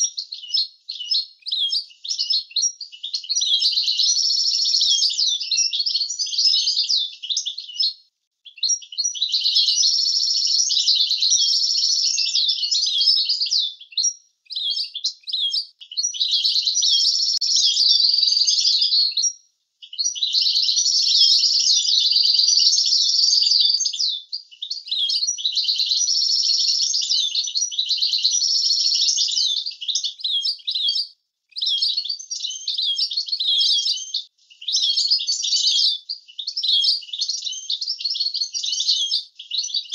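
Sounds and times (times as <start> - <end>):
goldfinch singing twittering trills: 0.0 - 39.9.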